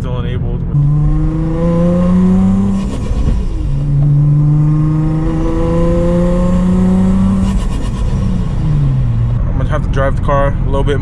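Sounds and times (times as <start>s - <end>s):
car engine accelerating: 0.6s - 11.0s.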